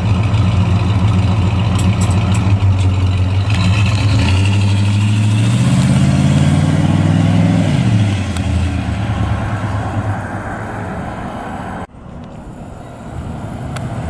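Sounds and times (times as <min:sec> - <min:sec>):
car engine pulling away: 0:00.0 - 0:14.0.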